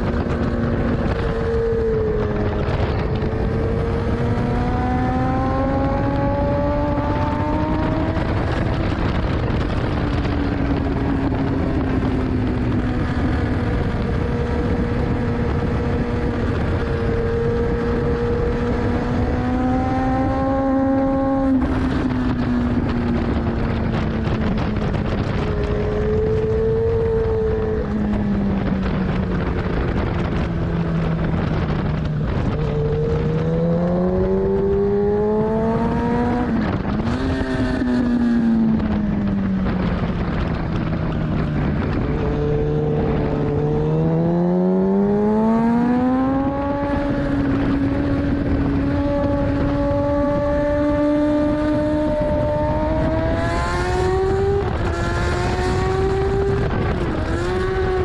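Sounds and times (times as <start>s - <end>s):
motorcycle engine revving: 0.0s - 58.0s
wind rushing over microphone: 0.0s - 58.0s.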